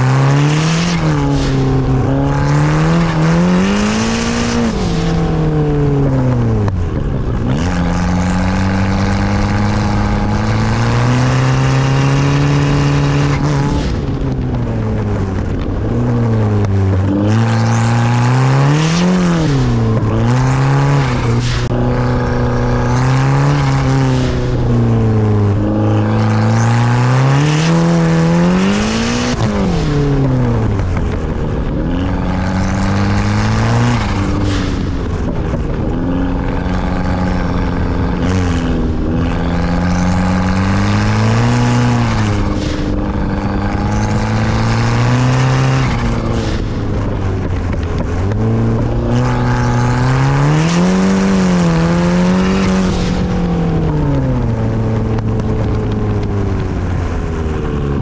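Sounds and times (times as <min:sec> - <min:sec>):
turbo car engine revving: 0:00.0 - 0:58.0.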